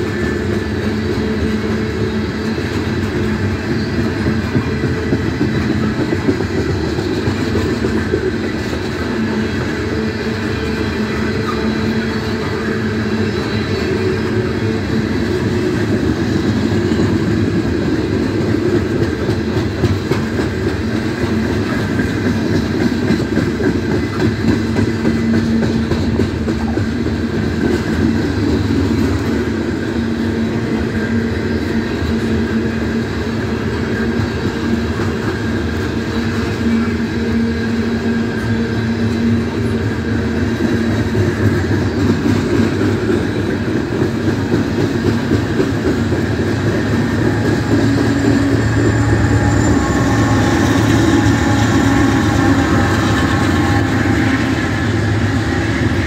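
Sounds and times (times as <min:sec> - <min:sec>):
freight train rolling past: 0:00.0 - 0:56.0
steel wheels clattering on rails: 0:00.0 - 0:56.0.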